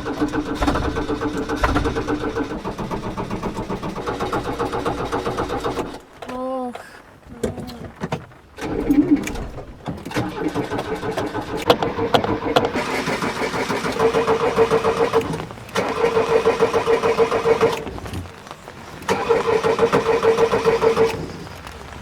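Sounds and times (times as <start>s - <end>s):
starter cranking engine: 0.0s - 6.5s, 7.4s - 22.0s.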